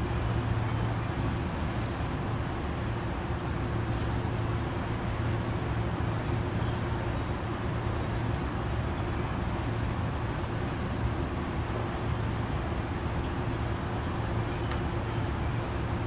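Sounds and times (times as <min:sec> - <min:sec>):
train equipment hum: 0:00.0 - 0:16.0.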